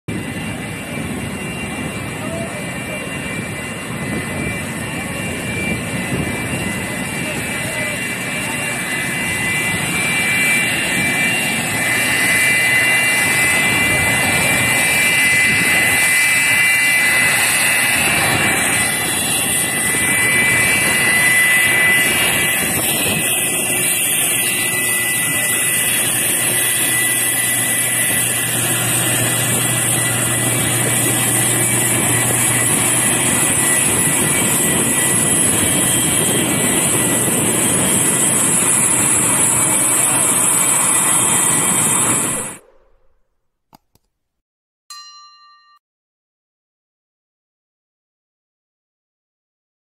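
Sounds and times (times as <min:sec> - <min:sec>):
jet engines whining while taxiing: 0:00.1 - 0:43.2.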